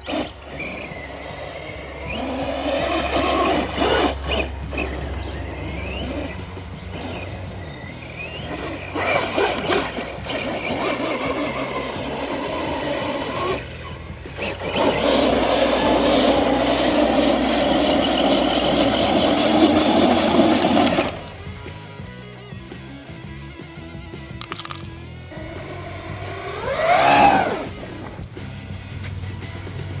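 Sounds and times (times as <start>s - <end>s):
tires churning through dirt: 0.0s - 21.8s, 25.3s - 30.0s
rc truck motor whining: 0.0s - 22.2s, 23.0s - 30.0s
background music: 0.0s - 30.0s.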